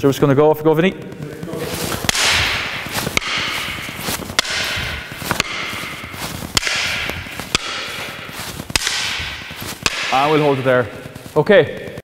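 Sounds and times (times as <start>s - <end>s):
shuffling steps on floor: 0.9s - 12.0s
wooden sticks clacking: 1.0s - 12.0s.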